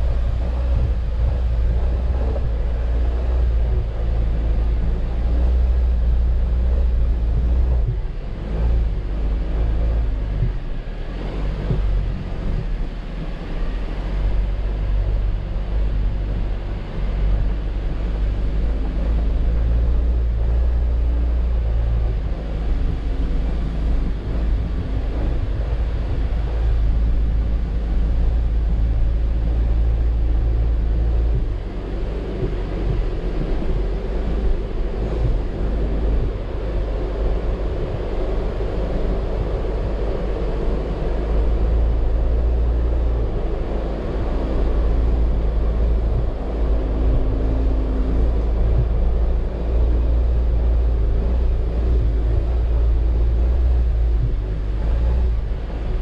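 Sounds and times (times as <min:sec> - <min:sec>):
car engine rumble: 0:00.0 - 0:56.0
road and body noise: 0:00.0 - 0:56.0.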